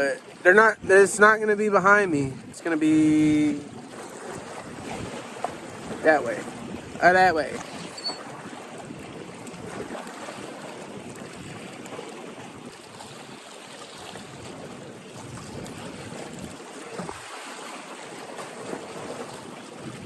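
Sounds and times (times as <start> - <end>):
water at shoreline: 0.0 - 20.0
wind: 0.0 - 20.0.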